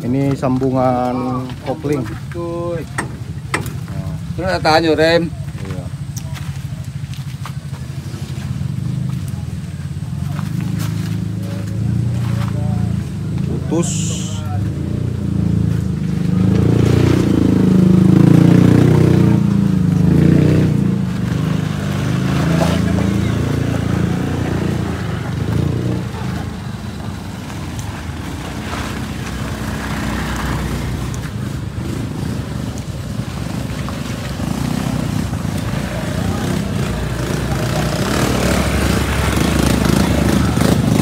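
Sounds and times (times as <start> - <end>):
heavy vehicle engine revving: 2.6 - 6.6, 7.4 - 41.0.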